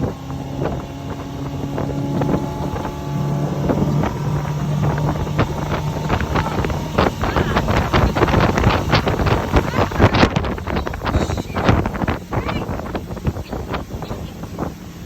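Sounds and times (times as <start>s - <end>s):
motorboat engine humming: 0.0s - 15.0s
wind buffeting microphone: 0.0s - 15.0s.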